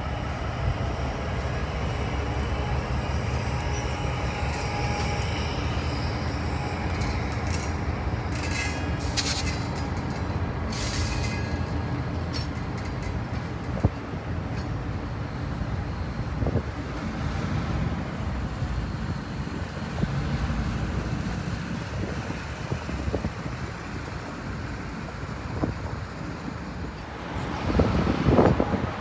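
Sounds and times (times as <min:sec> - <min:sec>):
railcars rolling on rails: 0:00.0 - 0:29.0.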